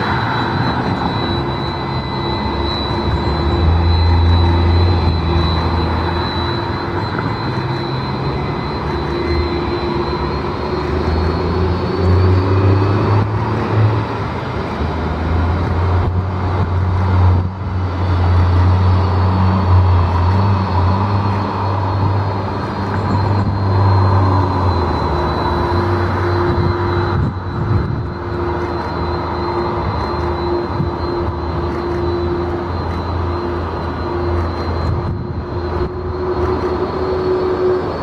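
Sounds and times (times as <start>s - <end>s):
aircraft engine hum: 0.0s - 38.0s
high turbofan whine: 0.0s - 38.0s
steady tone: 0.0s - 38.0s.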